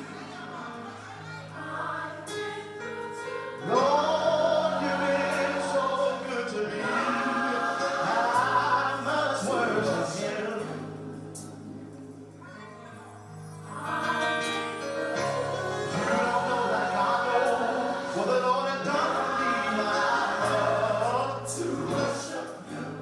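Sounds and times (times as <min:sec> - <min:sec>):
choir singing gospel: 0:00.0 - 0:23.0
low instrumental backing: 0:00.0 - 0:23.0.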